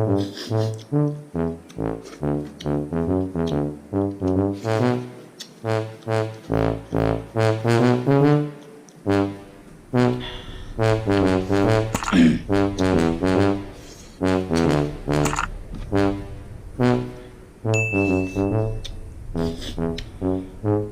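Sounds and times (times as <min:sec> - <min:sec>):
brass instrument playing short notes: 0:00.0 - 0:20.9.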